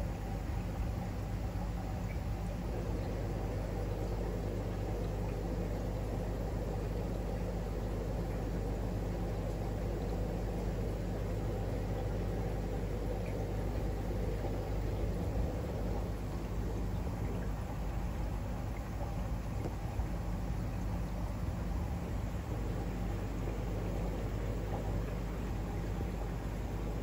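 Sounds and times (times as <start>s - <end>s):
low pump hum: 0.0s - 27.0s.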